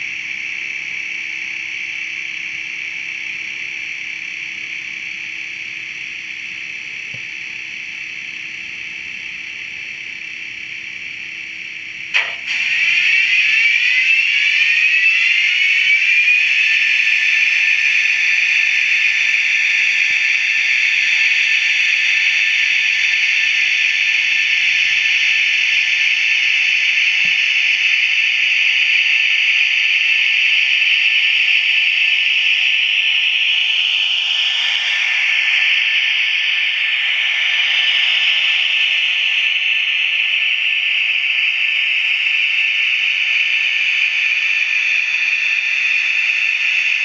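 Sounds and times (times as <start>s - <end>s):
electric locomotive whine: 0.0s - 47.0s.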